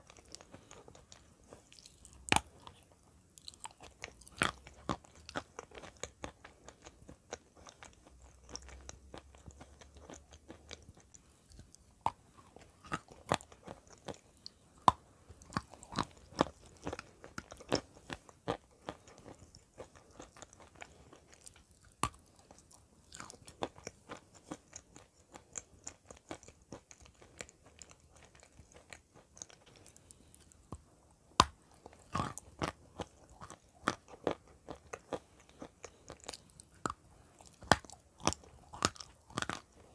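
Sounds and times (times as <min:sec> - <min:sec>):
crunching and chewing clay: 0:00.0 - 0:39.9.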